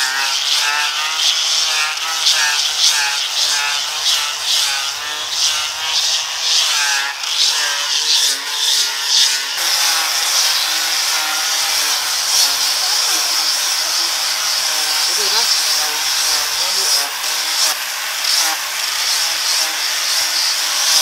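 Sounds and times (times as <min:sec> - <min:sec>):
electric sander on wood: 0:00.0 - 0:21.0.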